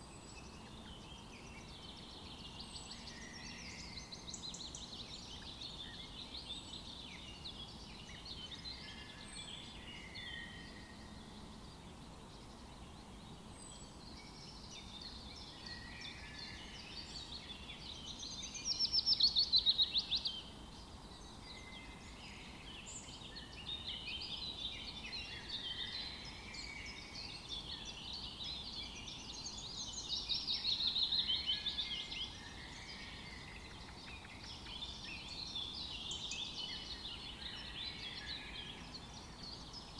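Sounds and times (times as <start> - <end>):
rapid trilling birdsong: 0.0 - 39.9.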